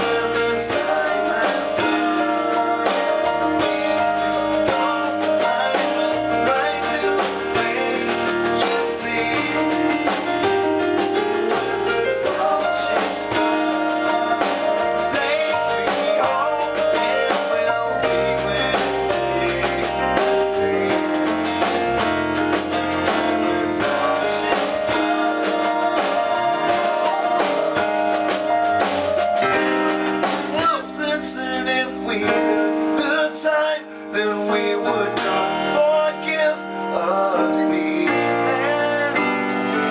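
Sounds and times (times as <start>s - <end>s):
bass guitar: 0.0s - 39.9s
drum kit: 0.0s - 39.9s
electric guitar: 0.0s - 39.9s
keyboards: 0.0s - 39.9s
person singing: 0.0s - 39.9s.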